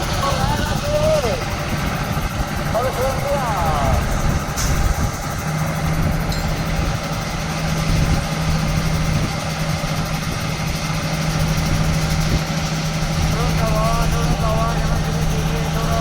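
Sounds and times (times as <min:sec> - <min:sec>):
heavy machinery engine idling: 0:00.0 - 0:16.0.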